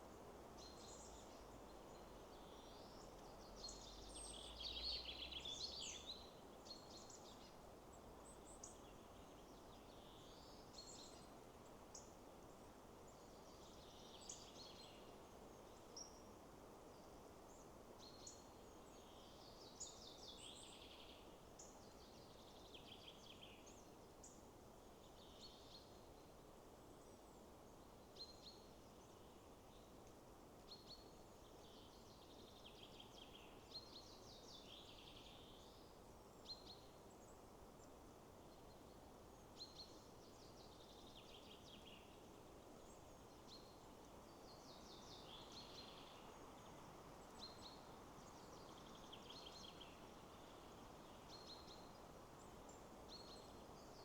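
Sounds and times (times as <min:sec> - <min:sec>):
wind in the trees: 0:00.0 - 0:54.0.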